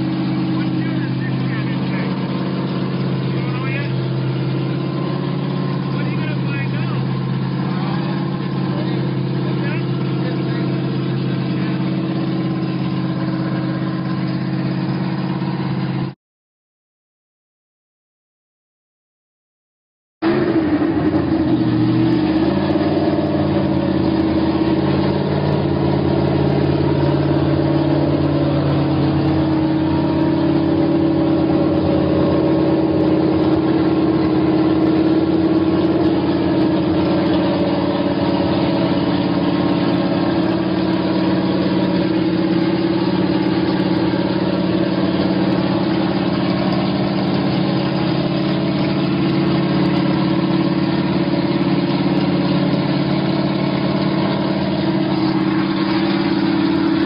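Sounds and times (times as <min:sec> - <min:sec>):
car engine idling: 0:00.0 - 0:16.1, 0:20.2 - 0:57.0.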